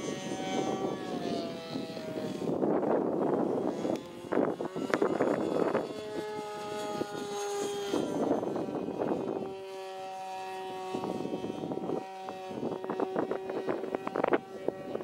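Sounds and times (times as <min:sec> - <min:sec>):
model plane engine buzzing: 0:00.0 - 0:15.0
wind noise on microphone: 0:00.0 - 0:15.0.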